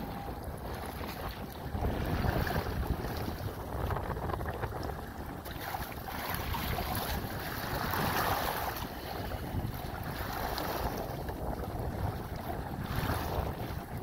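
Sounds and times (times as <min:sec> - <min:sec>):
water splashing along kayak hull: 0:00.0 - 0:14.0
wind buffeting microphone: 0:00.0 - 0:14.0.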